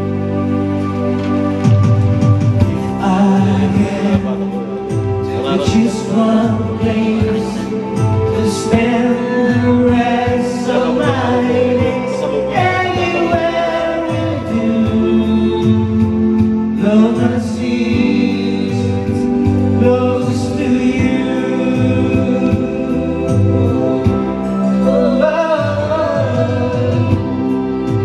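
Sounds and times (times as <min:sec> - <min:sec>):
pop ballad backing track: 0:00.0 - 0:28.0
men singing karaoke: 0:02.6 - 0:28.0.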